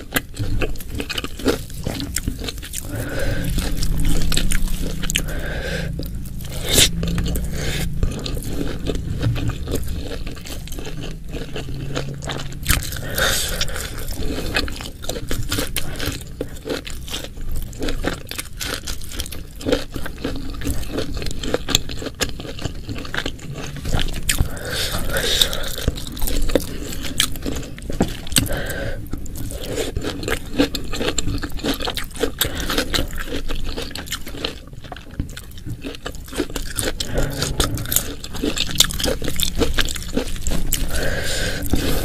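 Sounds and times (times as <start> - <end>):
person chewing and crunching food: 0.0 - 42.0.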